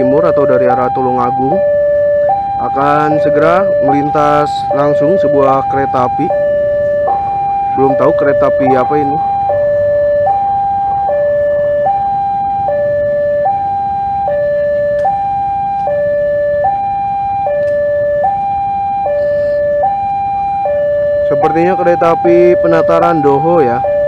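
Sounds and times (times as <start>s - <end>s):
level crossing two-tone alarm: 0.0s - 24.0s.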